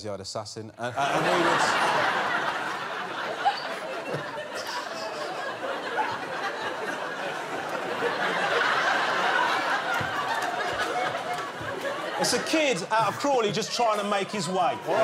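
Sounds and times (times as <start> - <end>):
audience laughing: 0.8 - 15.0.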